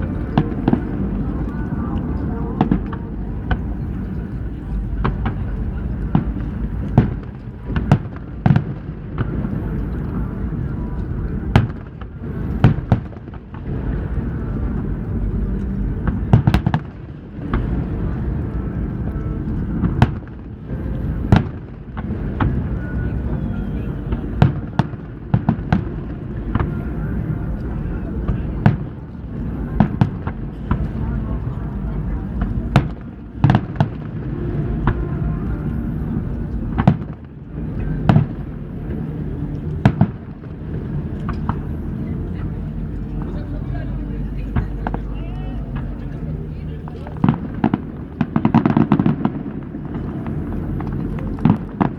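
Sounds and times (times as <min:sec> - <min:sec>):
fireworks bangs: 0:00.0 - 0:51.9
low rumble: 0:00.0 - 0:51.9.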